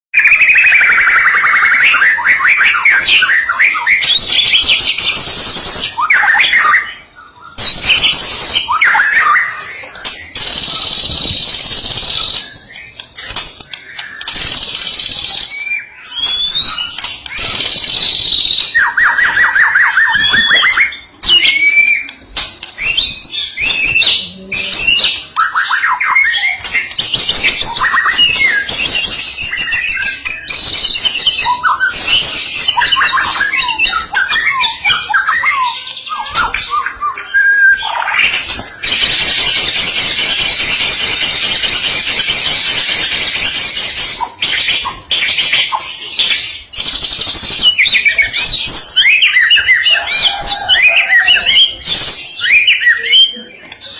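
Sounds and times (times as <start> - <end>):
bird singing whistles and trills: 0.2 - 53.9.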